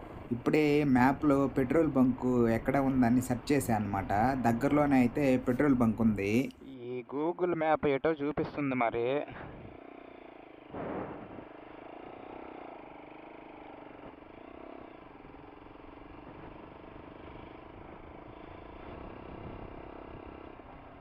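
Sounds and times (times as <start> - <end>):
motorcycle engine running: 0.0 - 6.8, 9.2 - 21.0.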